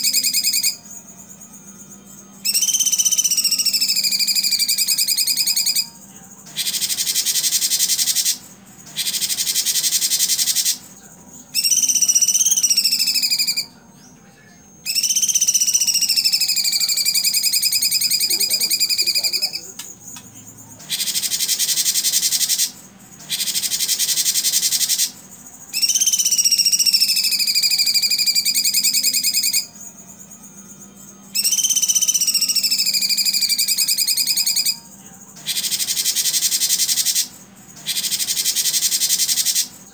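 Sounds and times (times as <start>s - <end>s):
bird trilling and whistling: 0.0s - 1.0s, 2.4s - 5.9s, 6.6s - 10.8s, 11.5s - 13.8s, 14.8s - 19.9s, 20.8s - 29.9s, 31.3s - 39.8s.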